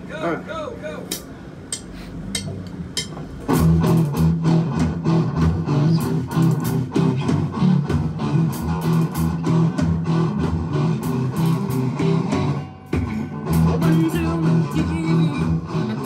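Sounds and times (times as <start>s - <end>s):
steady drum beat: 1.1s - 16.0s
bass line: 2.1s - 16.0s
strummed guitars: 2.1s - 16.0s.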